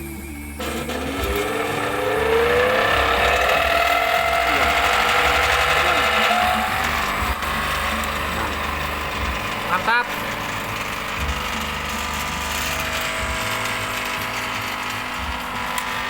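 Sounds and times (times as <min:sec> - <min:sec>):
electric motor whine: 0:00.0 - 0:16.0
machine mechanical clatter: 0:00.6 - 0:16.0.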